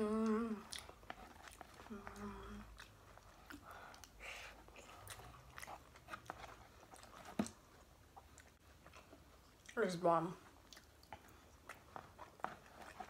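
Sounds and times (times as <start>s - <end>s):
chewing and crunching food: 0.2s - 13.0s.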